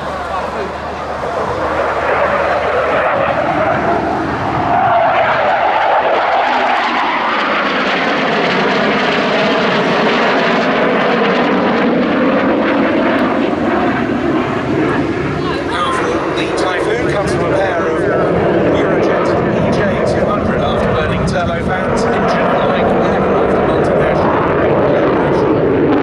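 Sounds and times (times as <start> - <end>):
fighter jet passing: 0.0 - 26.0.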